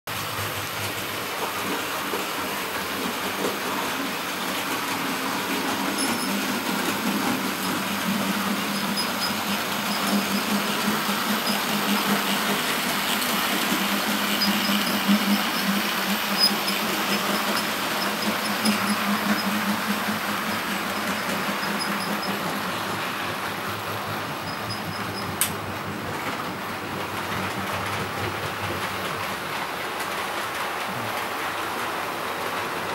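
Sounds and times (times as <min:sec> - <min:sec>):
model train running on track: 0:00.1 - 0:32.9.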